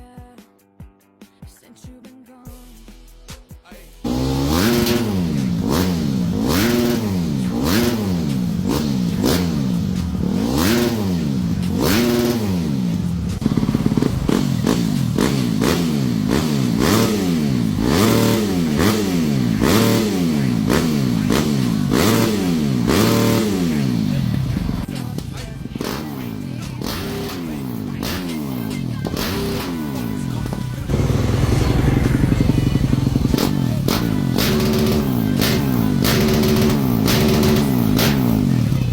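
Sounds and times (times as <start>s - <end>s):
dirt bike engine revving: 4.0s - 38.9s.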